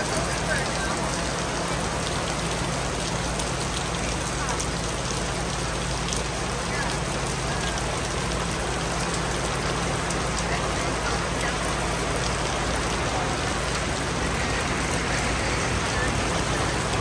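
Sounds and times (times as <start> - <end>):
rain hissing on ground: 0.0 - 17.0.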